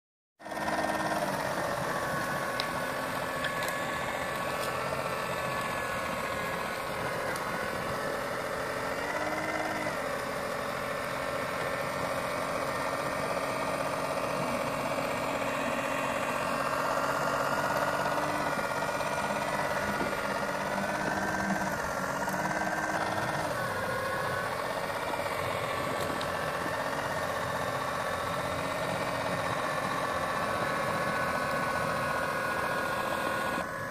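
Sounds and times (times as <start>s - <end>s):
small motor whining: 0.4s - 33.9s.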